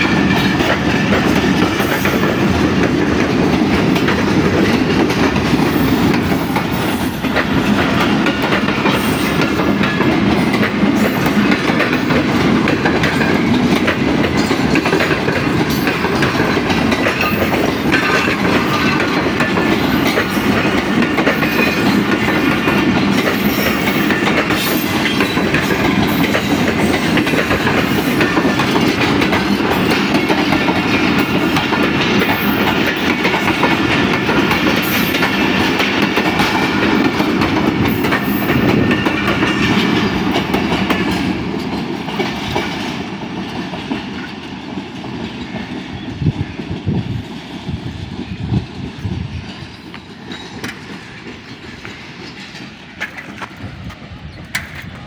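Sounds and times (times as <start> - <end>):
wheels clattering over rail joints: 0.0 - 45.9, 49.1 - 55.0
train coaches rumbling past: 0.0 - 55.0.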